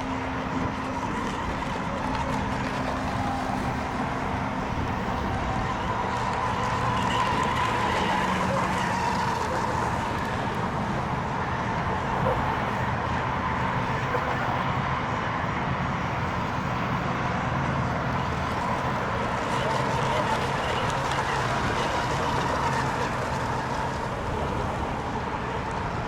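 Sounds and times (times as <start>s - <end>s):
model boat engines whining: 0.0s - 26.0s.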